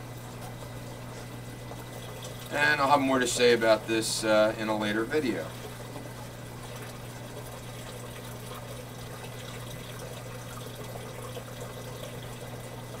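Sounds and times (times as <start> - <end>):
water trickling and splashing: 0.0 - 3.6, 4.8 - 13.0
steady low hum: 0.0 - 13.0.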